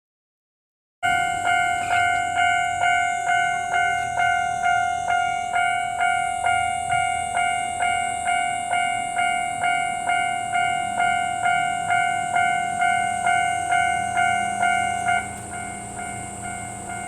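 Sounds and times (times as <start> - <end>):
level crossing warning bell: 1.0 - 17.0.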